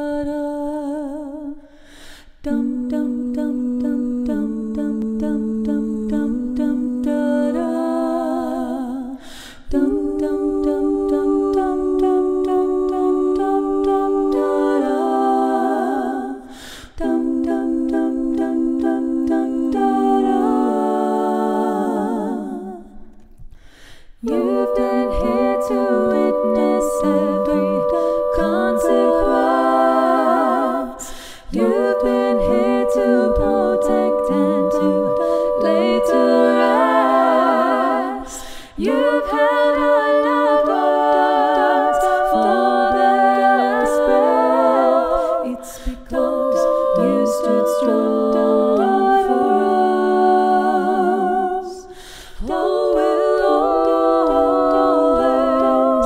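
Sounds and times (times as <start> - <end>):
woman singing layered harmonies: 0.0 - 56.0.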